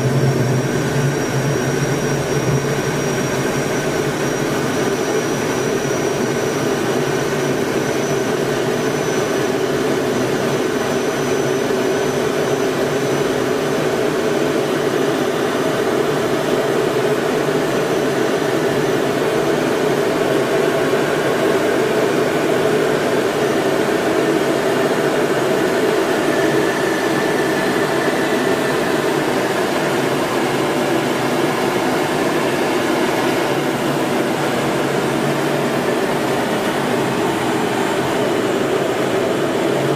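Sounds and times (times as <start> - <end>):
aircraft engine and airflow: 0.0 - 39.9
faint high whine: 0.0 - 39.9.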